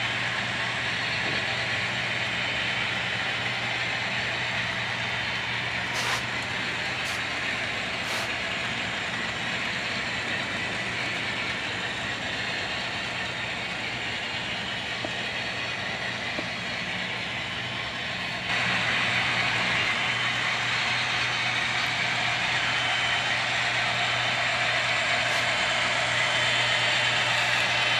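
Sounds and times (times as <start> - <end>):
model train hum and rolling hiss: 0.0 - 27.9.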